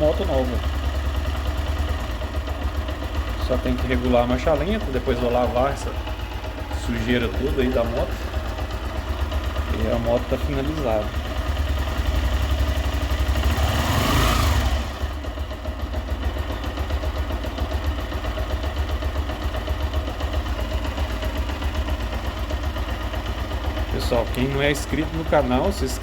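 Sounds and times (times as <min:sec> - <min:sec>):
motorcycle engine revving and idling: 0:00.0 - 0:26.0.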